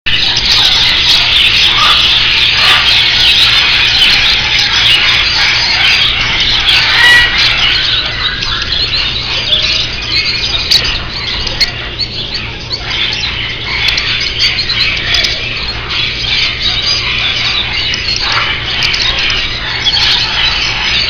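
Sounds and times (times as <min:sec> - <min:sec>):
lovebirds chattering and squawking: 0:00.1 - 0:21.0.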